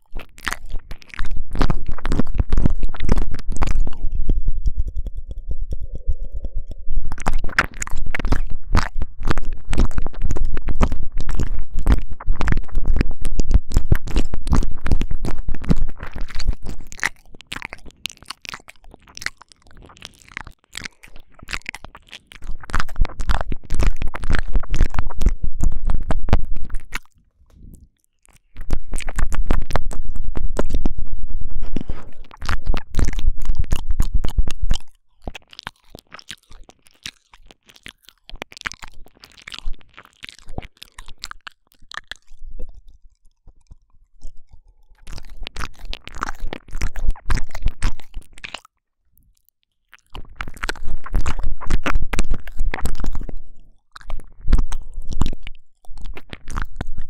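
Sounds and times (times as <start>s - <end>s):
wet mouth sounds: 0.0s - 57.0s.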